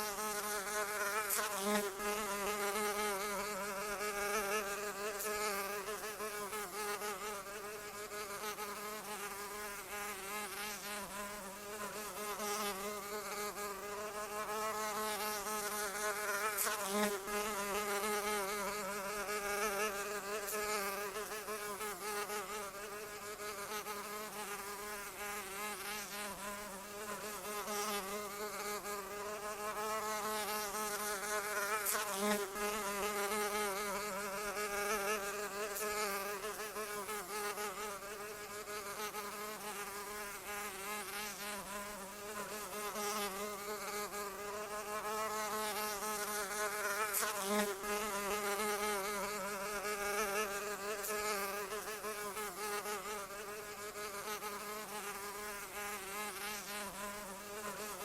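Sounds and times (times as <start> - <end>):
flying insects buzzing: 0.0 - 58.0.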